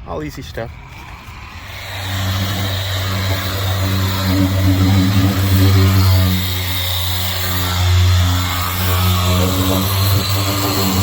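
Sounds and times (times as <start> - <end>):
power sander grinding: 0.7 - 11.0.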